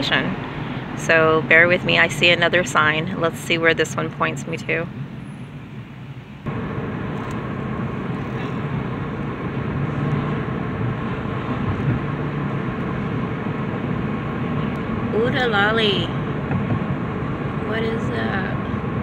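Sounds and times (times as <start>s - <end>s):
car engine and tyre hum: 0.0s - 19.0s.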